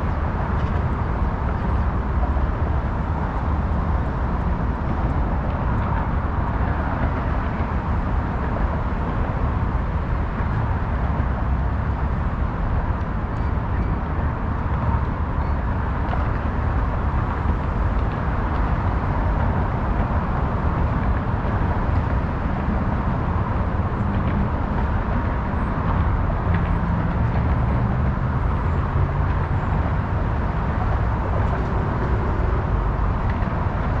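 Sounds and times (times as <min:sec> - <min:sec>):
faint engine hums: 0:00.0 - 0:34.0
road traffic rumble: 0:00.0 - 0:34.0.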